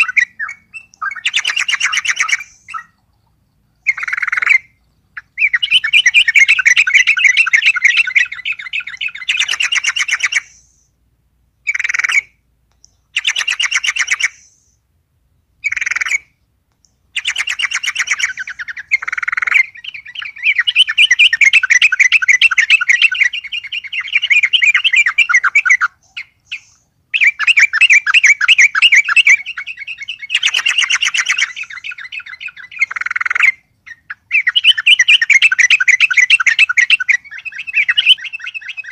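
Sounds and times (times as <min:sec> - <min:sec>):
bird singing warbling phrases: 0:00.0 - 0:11.0, 0:11.6 - 0:38.9.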